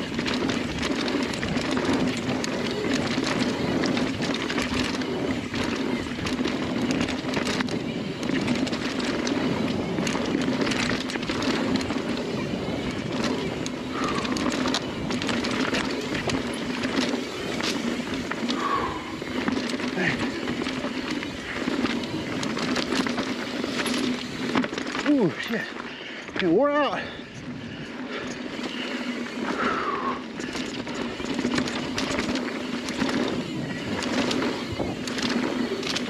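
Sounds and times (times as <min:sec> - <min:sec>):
bike knocking and rattling: 0:00.0 - 0:36.0
bike tyres rumbling on dirt: 0:00.0 - 0:36.0.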